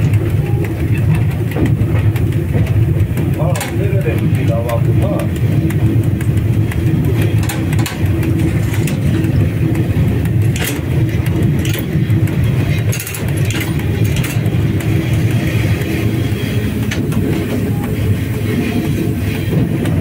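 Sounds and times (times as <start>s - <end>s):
electric locomotive drone: 0.0s - 20.0s
sharp clicks and knocks: 0.0s - 20.0s.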